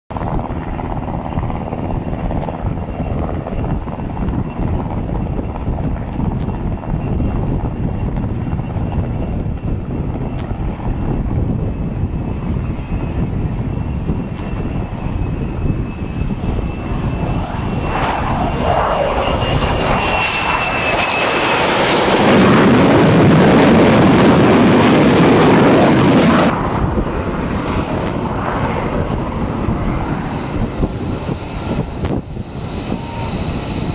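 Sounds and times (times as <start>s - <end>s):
jet engine: 0.1s - 33.9s
steady low rumble: 0.1s - 33.9s.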